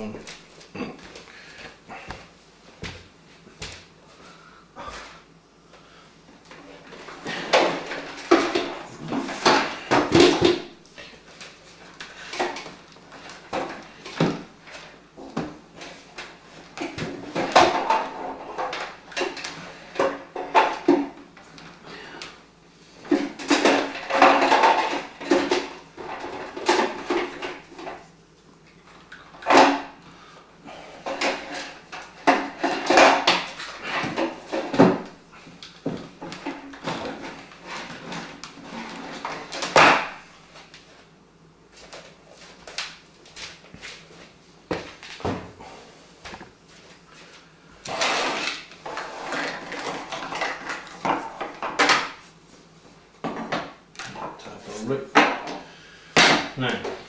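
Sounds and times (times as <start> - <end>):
rustling and scraping of parts: 0.1 - 57.0.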